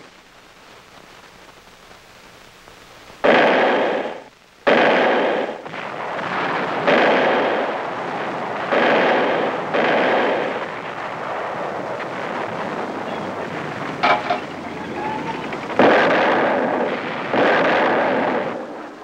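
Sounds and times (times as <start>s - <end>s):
artillery firing: 3.2s - 19.0s
battle noise: 3.2s - 19.0s.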